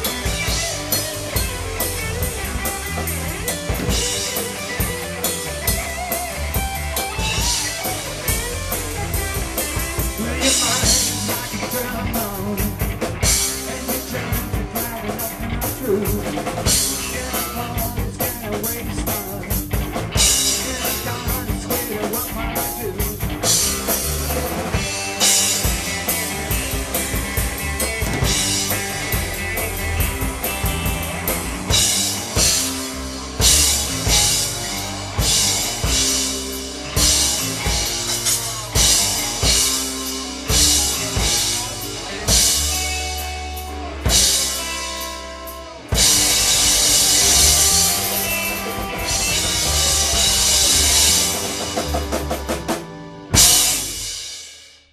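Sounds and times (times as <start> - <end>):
instrumental rock music: 0.0 - 54.9.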